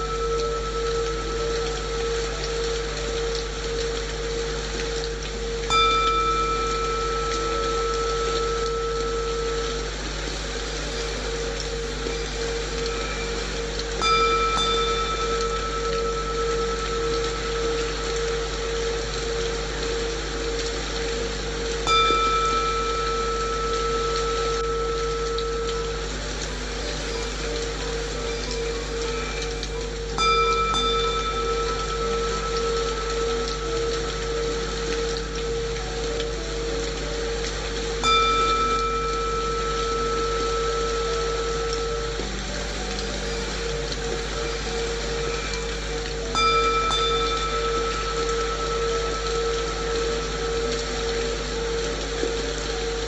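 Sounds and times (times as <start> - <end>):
low steady bowl tone: 0.0 - 53.0
singing bowl ringing: 0.0 - 53.0
steady rain: 0.0 - 53.0.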